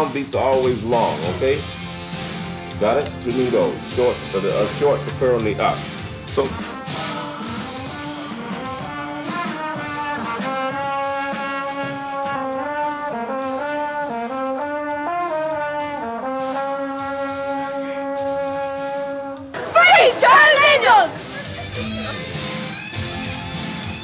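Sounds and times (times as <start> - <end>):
brass band playing chords: 0.0 - 24.0.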